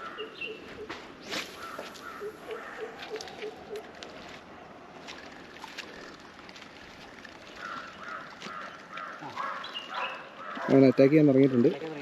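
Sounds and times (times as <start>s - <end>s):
bird calling: 0.0s - 4.0s, 5.1s - 10.8s.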